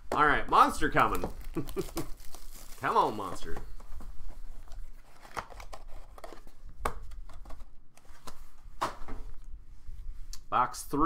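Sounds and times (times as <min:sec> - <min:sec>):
packaging rustling: 0:00.6 - 0:09.5.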